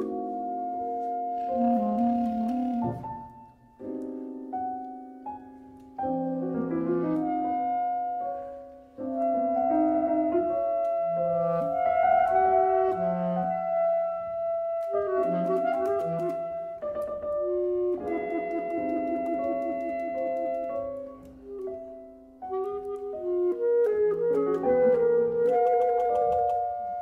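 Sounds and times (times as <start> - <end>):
clarinet phrases: 0.0 - 3.4, 6.6 - 27.0
piano chords: 0.0 - 27.0.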